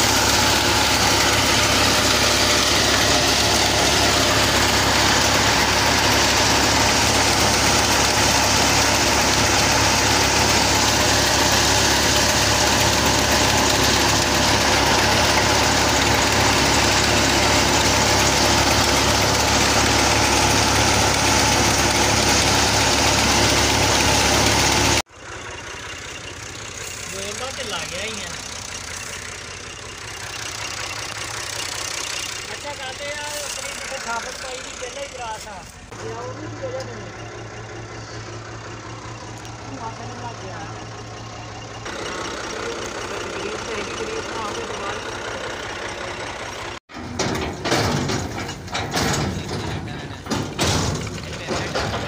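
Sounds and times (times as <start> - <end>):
threshing machine running: 0.0 - 52.0
tractor engine droning: 0.0 - 52.0.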